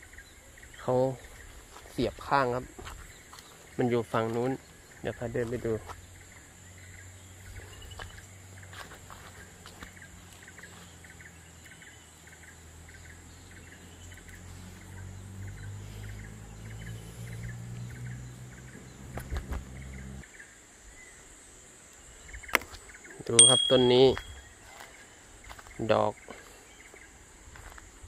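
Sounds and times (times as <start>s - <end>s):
insects droning and chirping: 0.0s - 28.0s.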